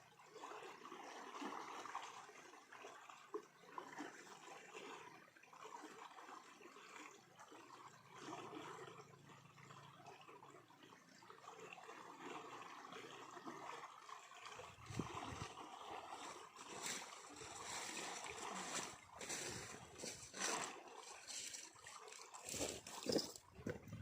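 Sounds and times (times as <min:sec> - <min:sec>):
small water splashes: 0:00.0 - 0:24.0
water trickling: 0:00.0 - 0:24.0.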